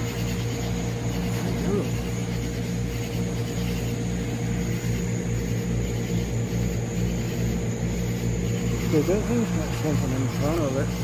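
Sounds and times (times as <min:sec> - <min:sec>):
distant aircraft engine drone: 0:00.0 - 0:11.0.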